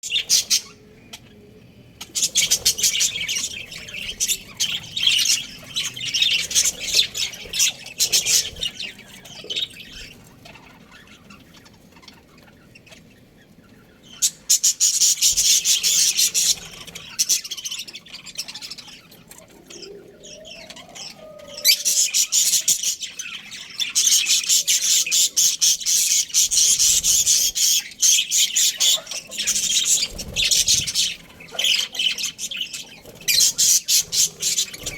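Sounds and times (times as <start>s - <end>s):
budgerigars chirping: 0.0s - 34.9s.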